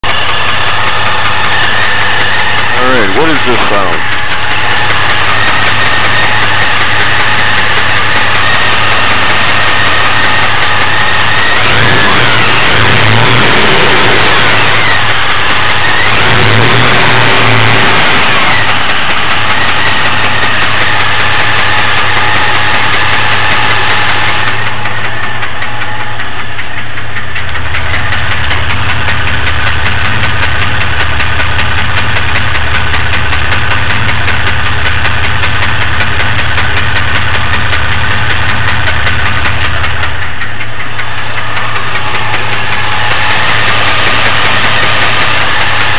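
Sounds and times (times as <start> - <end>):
car engine idling with fast ticking: 0.0 - 45.9.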